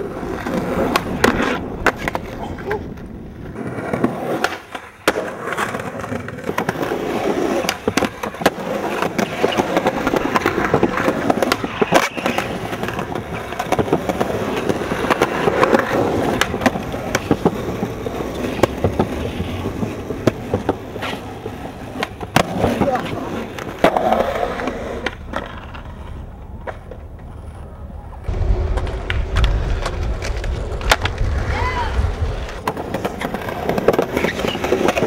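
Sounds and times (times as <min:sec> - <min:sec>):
skateboard popping and landing: 0:00.0 - 0:35.0
skateboard wheels rolling on concrete: 0:00.0 - 0:35.0.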